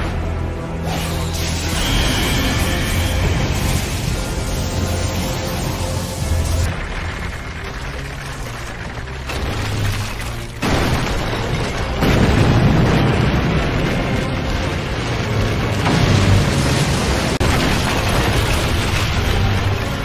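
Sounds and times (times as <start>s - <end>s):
deep rumble: 2.5s - 20.0s.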